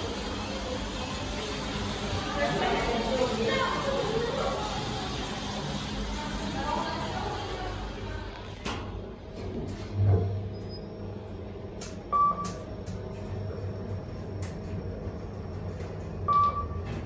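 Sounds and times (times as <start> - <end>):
elevator humming: 0.0 - 17.0.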